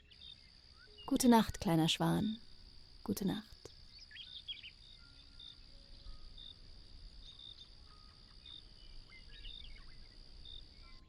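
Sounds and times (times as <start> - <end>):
crickets trilling and chirping: 0.0 - 11.0.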